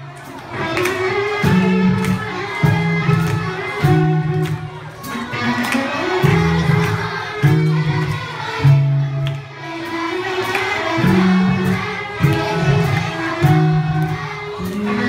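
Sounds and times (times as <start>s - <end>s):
bass guitar: 0.0s - 15.0s
guitar: 0.0s - 15.0s.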